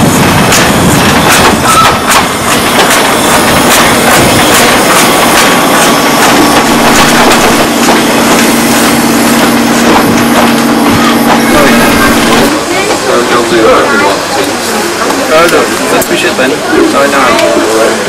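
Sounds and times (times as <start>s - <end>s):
steam locomotive rushing steam: 0.0s - 18.0s.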